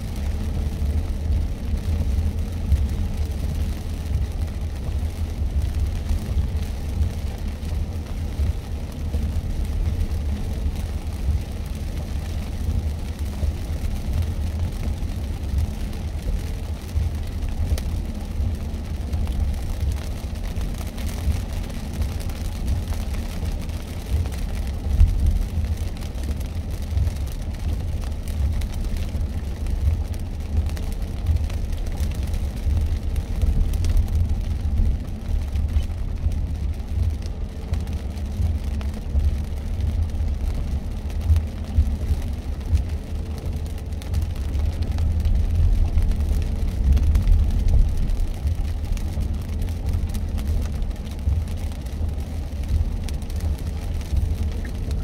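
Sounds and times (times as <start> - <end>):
road and tyre rumble: 0.0 - 55.0.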